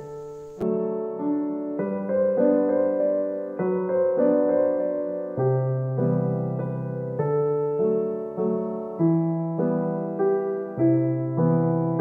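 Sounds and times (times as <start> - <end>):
sustained piano chords: 0.0 - 12.0.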